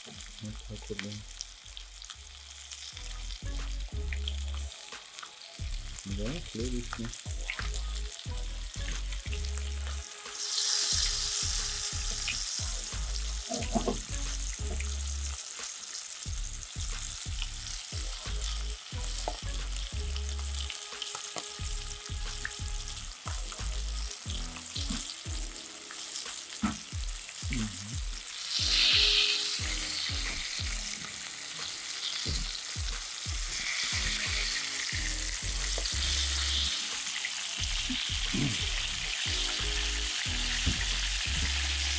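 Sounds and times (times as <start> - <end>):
fish sizzling in oil: 0.0 - 41.9.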